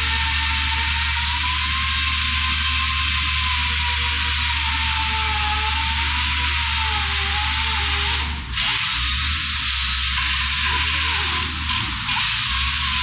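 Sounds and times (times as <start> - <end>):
pneumatic chain saw hissing: 0.0 - 13.0.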